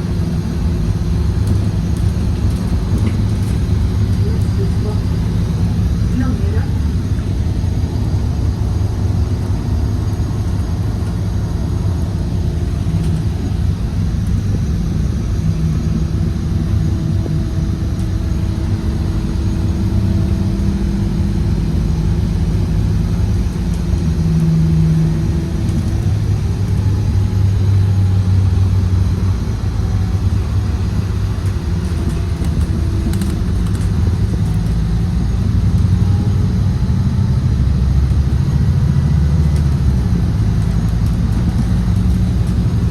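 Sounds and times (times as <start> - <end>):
bus engine rumbling: 0.0 - 42.9.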